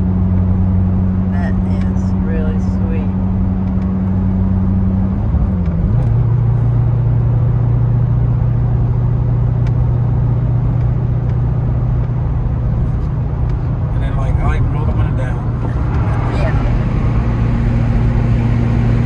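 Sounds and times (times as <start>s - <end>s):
car exhaust hum from inside cabin: 0.0s - 19.0s.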